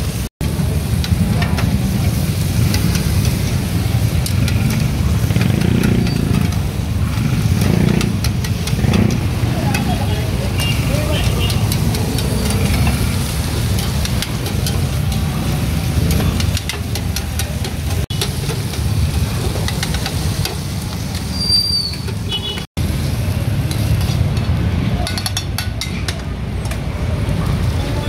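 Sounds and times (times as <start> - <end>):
meat sizzling on hot plate: 0.4 - 22.2, 22.8 - 25.7
metal utensils scraping and clinking: 1.0 - 22.3, 23.5 - 26.9.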